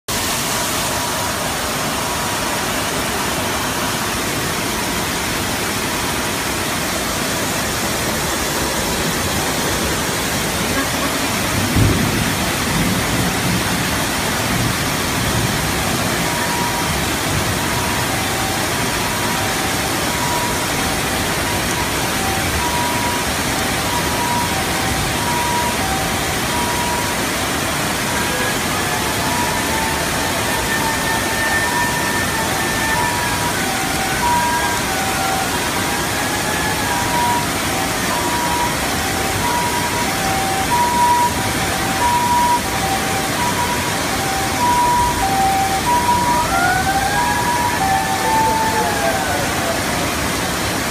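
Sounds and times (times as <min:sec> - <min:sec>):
water rushing over wall: 0:00.1 - 0:50.9.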